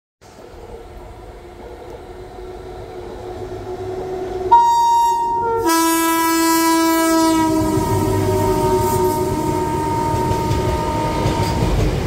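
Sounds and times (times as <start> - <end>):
freight train passing: 0.2 - 12.0
locomotive horn blasts: 2.2 - 12.0.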